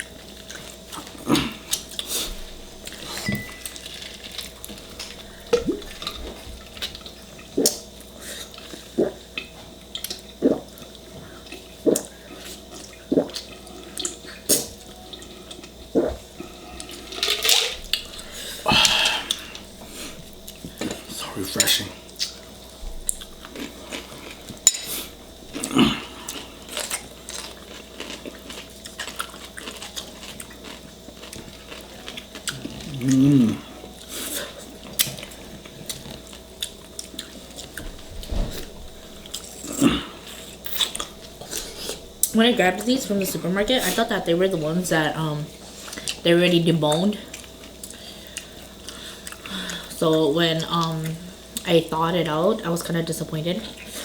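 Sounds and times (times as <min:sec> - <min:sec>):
person chewing and sucking food: 0:00.0 - 0:42.4, 0:47.3 - 0:49.8.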